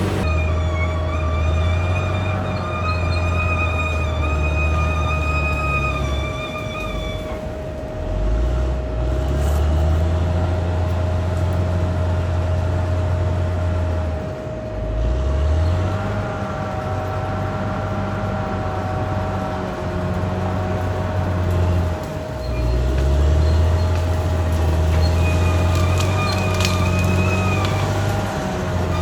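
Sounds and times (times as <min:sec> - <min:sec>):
bulldozer diesel engine droning: 0:00.0 - 0:29.0
constant whine: 0:00.0 - 0:29.0.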